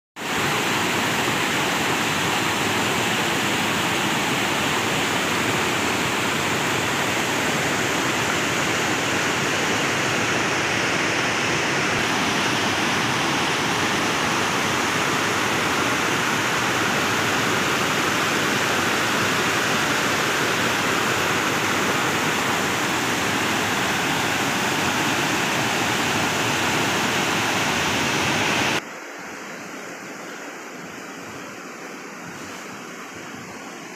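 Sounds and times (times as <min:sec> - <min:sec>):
river rushing over rocks: 0:00.2 - 0:33.9.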